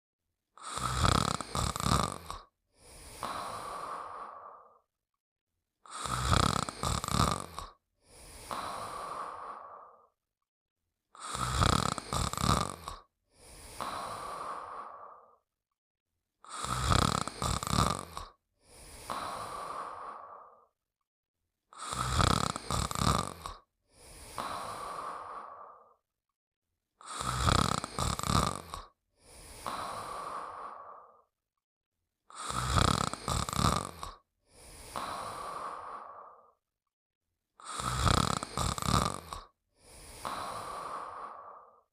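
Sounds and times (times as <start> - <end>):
cartoon character snoring: 0.6 - 4.8, 5.8 - 10.2, 11.2 - 15.4, 16.4 - 20.8, 21.7 - 26.0, 27.0 - 31.3, 32.3 - 36.6, 37.6 - 41.9.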